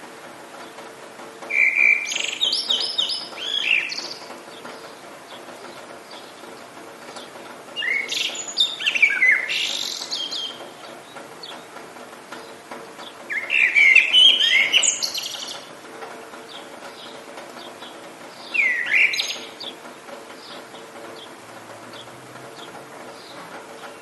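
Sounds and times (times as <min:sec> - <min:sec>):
rain hissing: 0:00.0 - 0:24.0
songbirds warbling: 0:01.5 - 0:24.0.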